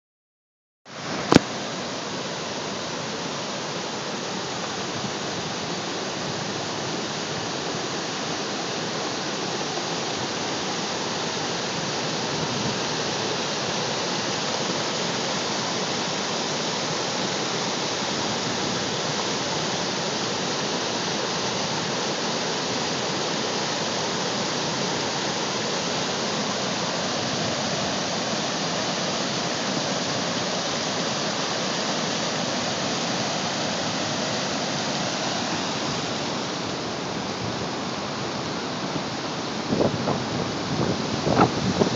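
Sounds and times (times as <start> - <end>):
floodwater rushing: 0.9 - 41.9.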